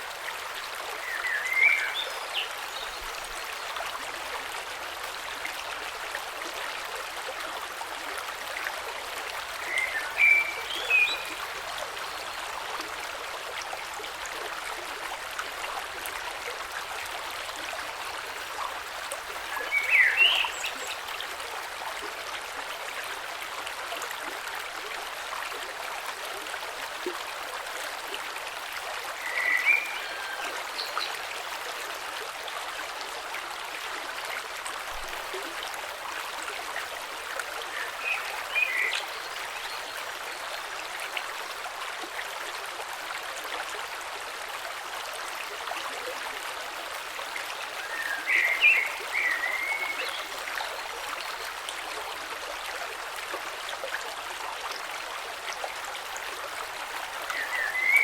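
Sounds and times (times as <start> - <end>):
creek flowing over stones: 0.0 - 58.0.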